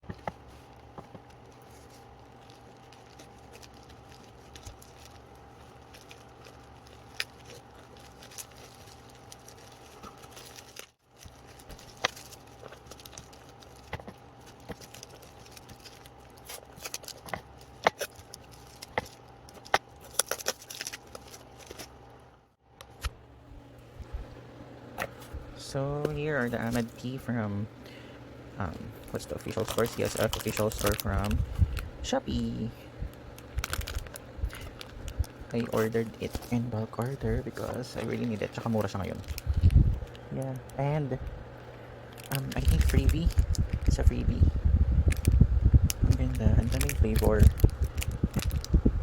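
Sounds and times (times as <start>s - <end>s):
plastic packaging crackling and rustling: 0.0s - 22.2s, 26.0s - 27.2s, 28.6s - 49.0s
faint electrical hum: 0.0s - 49.0s.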